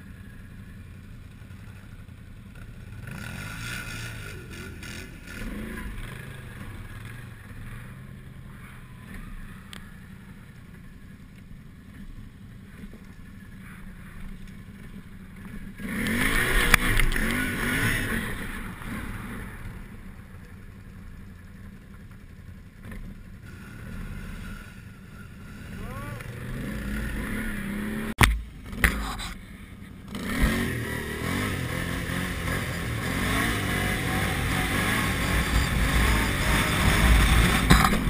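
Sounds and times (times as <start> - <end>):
atv engine revving: 0.0 - 38.0.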